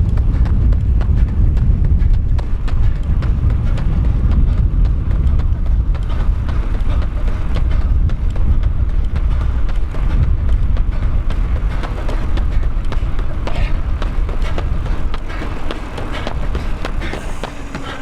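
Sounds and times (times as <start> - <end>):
runner's quick footfalls: 0.0 - 18.0
wind rumbling on microphone: 0.0 - 18.0.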